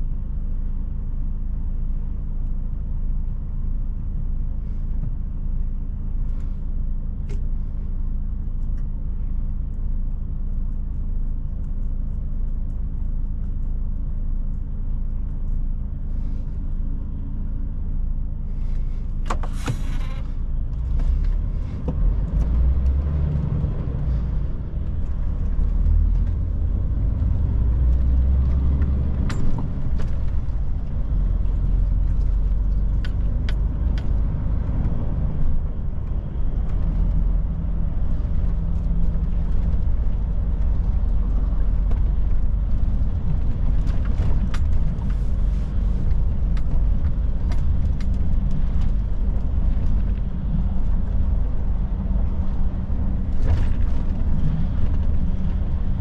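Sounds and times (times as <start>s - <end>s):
road noise: 0.0s - 56.0s
truck diesel engine rumble: 0.0s - 56.0s.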